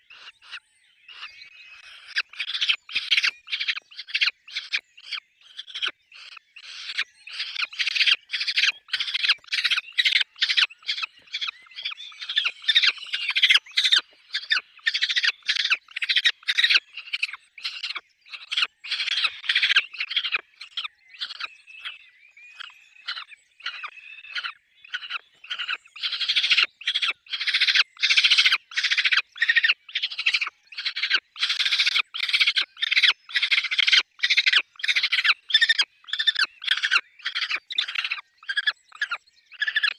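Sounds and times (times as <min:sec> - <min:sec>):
falcons calling harshly: 0:01.2 - 0:21.4, 0:23.1 - 0:39.9.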